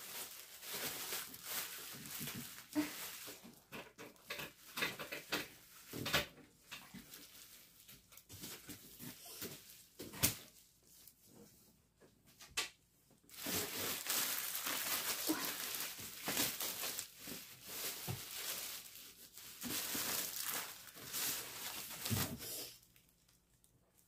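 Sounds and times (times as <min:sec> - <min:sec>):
plastic wrapping crinkling: 0:00.0 - 0:11.2, 0:13.2 - 0:24.0.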